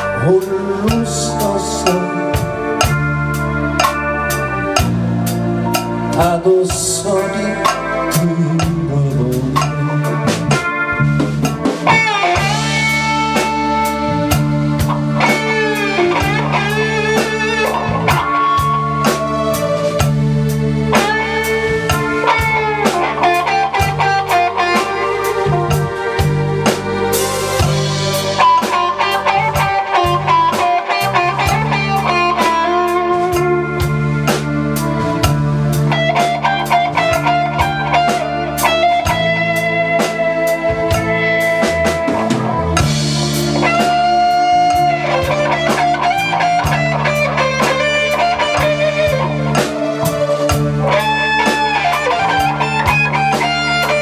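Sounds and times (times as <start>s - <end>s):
bass guitar: 0.0s - 54.0s
drum kit beat: 0.0s - 54.0s
lead guitar: 0.0s - 54.0s.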